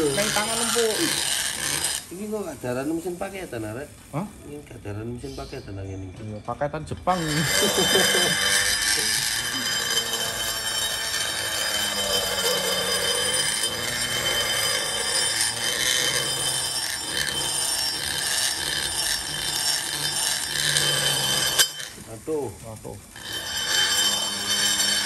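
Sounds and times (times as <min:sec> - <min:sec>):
die grinder whining: 0:00.0 - 0:05.7, 0:07.0 - 0:25.0.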